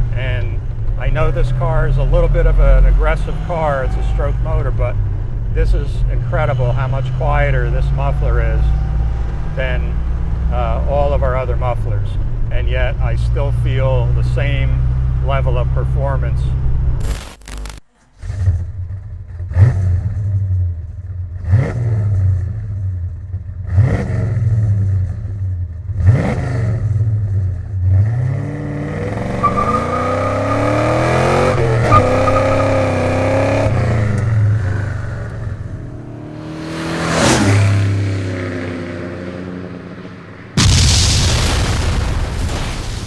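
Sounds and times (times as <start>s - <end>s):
car exhaust revving: 0.0s - 17.0s, 23.6s - 42.4s.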